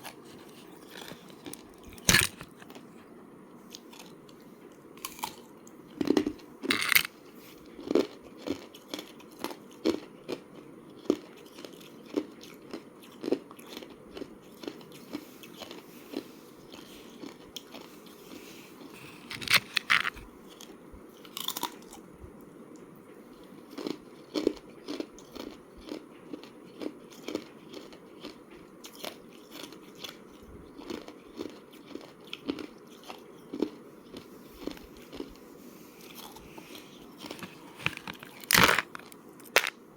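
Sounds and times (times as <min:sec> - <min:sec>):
person chewing ice: 0:00.0 - 0:03.0, 0:03.7 - 0:22.1, 0:23.4 - 0:39.8.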